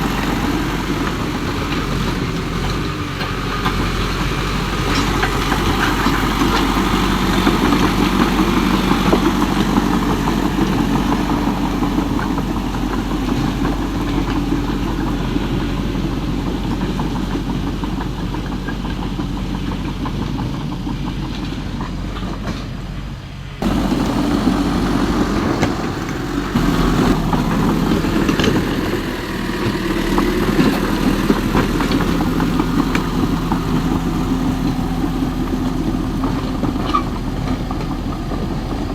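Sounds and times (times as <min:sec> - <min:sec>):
model excavator mechanical whir: 0:00.0 - 0:38.9.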